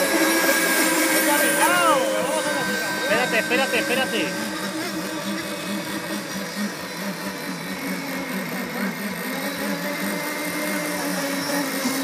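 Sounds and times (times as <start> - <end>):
model boat engine buzzing: 0.0 - 12.0.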